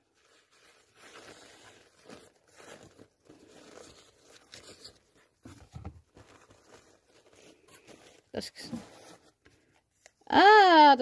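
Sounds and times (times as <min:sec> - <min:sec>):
paper rustling and crinkling: 0:00.0 - 0:10.2.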